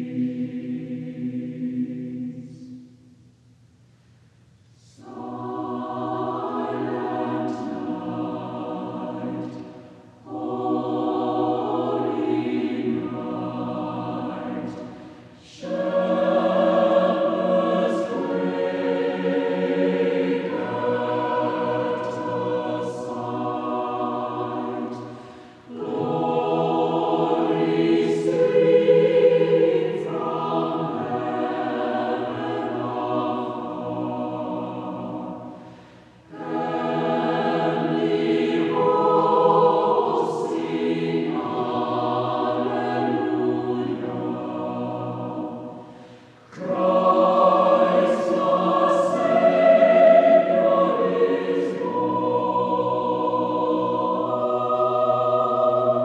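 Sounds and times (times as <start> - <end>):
choir singing slow chords: 0.0 - 3.8, 4.4 - 56.0.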